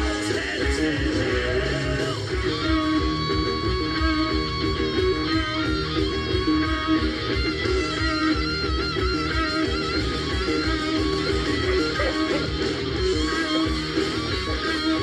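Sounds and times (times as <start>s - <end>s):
stoner metal band music: 0.0s - 15.0s
wavering guitar lead line: 0.0s - 15.0s.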